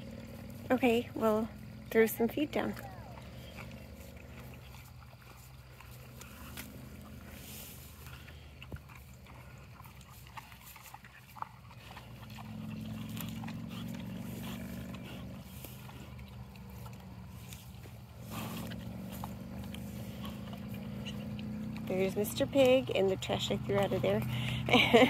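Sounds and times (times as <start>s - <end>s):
pig chewing and crunching: 0.0s - 25.0s
steady low hum: 0.0s - 25.0s.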